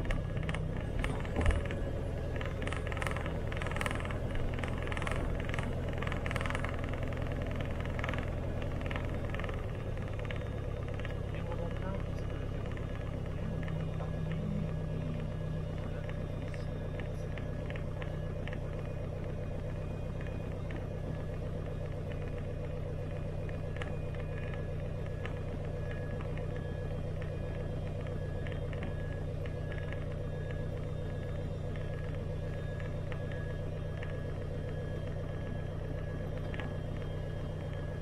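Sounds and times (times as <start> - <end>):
aircraft piston engine droning: 0.0 - 38.0.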